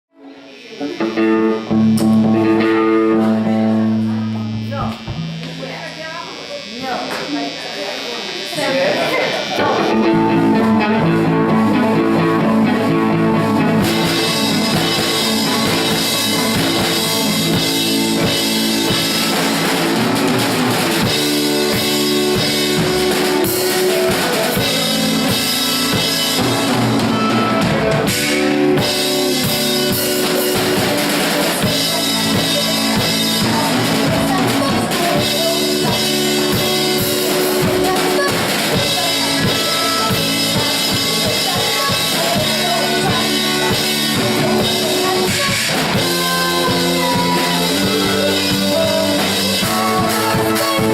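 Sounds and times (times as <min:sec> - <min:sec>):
rock band playing: 0:00.2 - 0:06.2, 0:08.5 - 0:50.9
drum kit beat: 0:00.8 - 0:07.2, 0:08.7 - 0:50.9.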